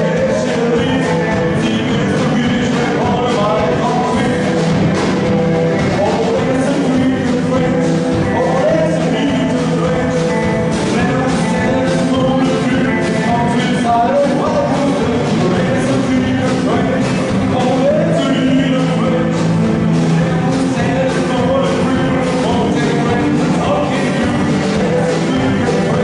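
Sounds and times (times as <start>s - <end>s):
rock band playing live: 0.0s - 26.0s
steady drum beat: 0.0s - 26.0s.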